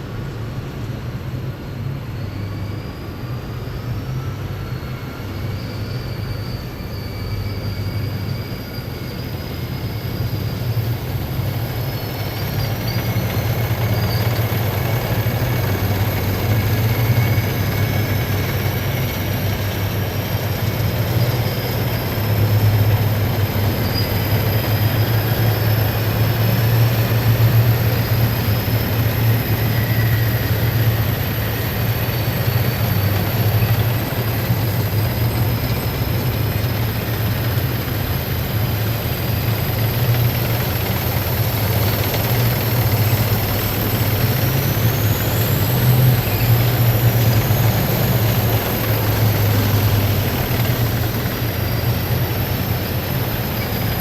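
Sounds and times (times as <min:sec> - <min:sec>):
heavy vehicle engines rumbling: 0:00.0 - 0:54.0
high squeals: 0:01.9 - 0:54.0.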